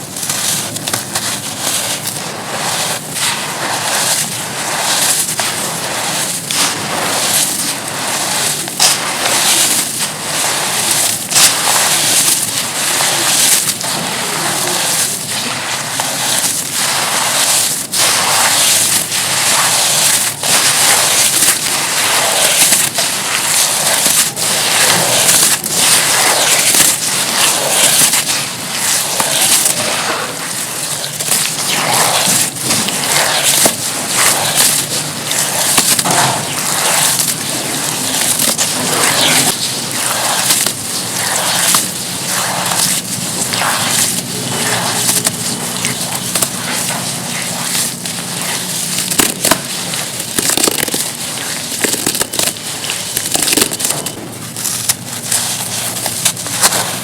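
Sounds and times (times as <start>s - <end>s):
charcoal crackling and crunching: 0.0s - 57.0s.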